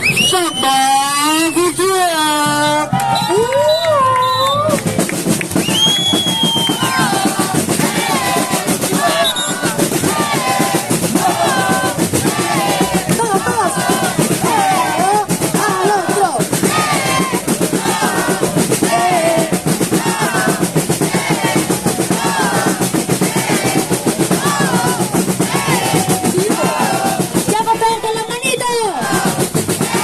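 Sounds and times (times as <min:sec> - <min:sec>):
samba drums: 0:00.0 - 0:30.0.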